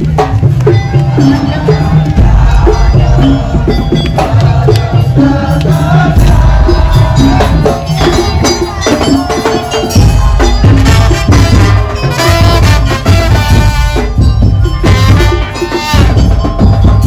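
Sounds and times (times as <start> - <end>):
percussion band music: 0.0 - 17.0.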